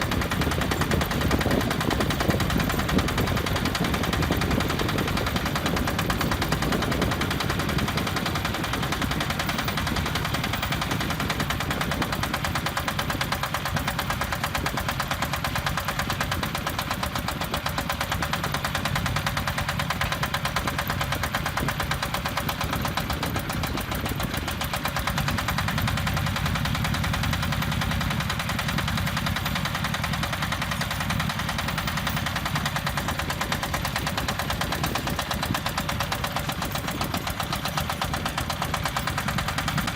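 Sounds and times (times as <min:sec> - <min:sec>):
concrete mixer engine knocking: 0:00.0 - 0:39.9.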